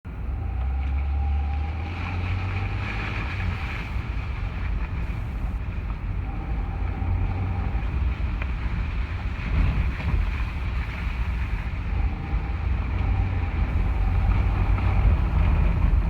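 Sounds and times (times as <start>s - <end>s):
car engine running: 0.1s - 16.0s.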